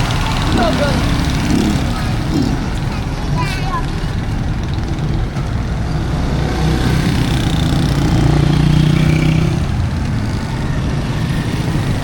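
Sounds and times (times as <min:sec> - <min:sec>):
street traffic: 0:00.0 - 0:12.0
vehicle engine running: 0:00.0 - 0:12.0.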